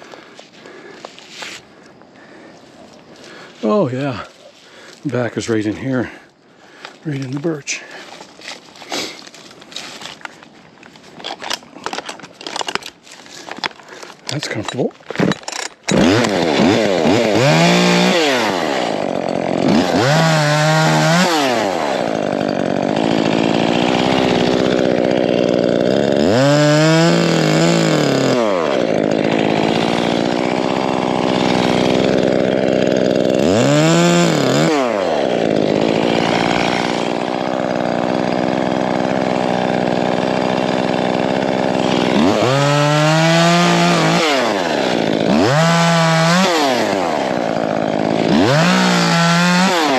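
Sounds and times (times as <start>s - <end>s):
chainsaw cutting wood: 4.2s - 49.9s.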